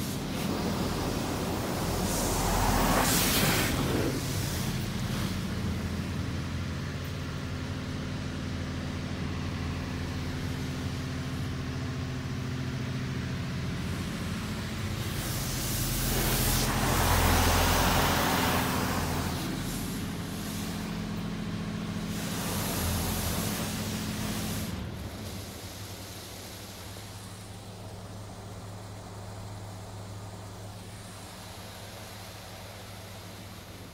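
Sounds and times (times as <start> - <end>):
low machine hum: 0.0 - 33.9
water spray hissing over car: 0.0 - 33.9.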